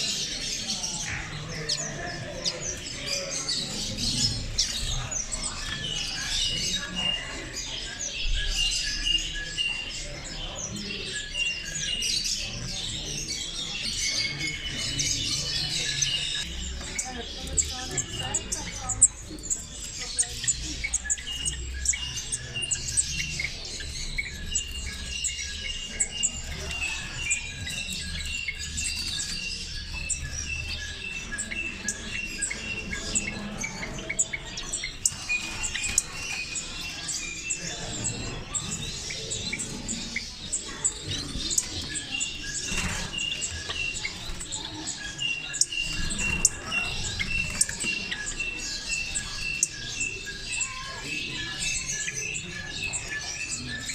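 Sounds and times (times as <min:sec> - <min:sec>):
caged birds chirping: 0:00.0 - 0:53.9.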